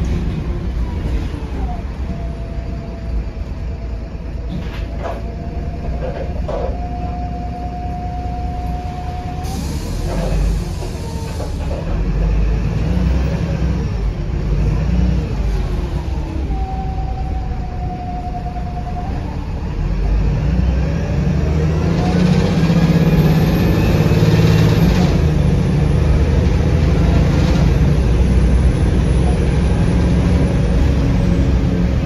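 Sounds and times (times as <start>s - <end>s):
bus diesel engine rumble: 0.0s - 32.0s
steady engine whine: 0.0s - 32.0s.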